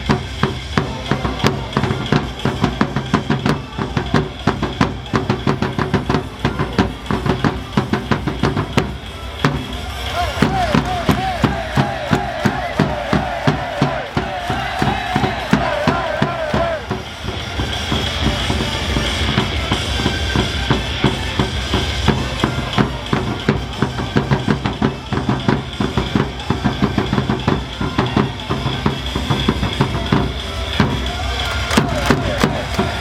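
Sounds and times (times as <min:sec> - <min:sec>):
drums beating fast rhythm: 0:00.0 - 0:33.0.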